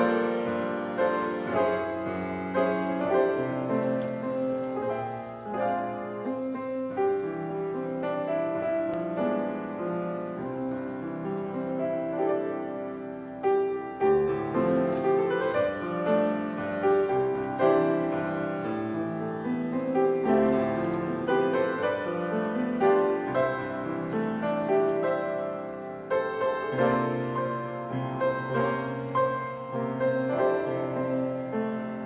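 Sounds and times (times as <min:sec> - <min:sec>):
piano chords: 0:00.0 - 0:32.0.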